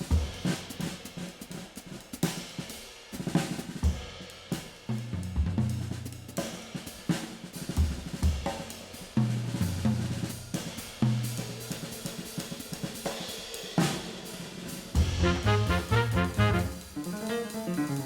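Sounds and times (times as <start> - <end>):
drum beat with bass line: 0.0 - 13.2, 13.8 - 18.0.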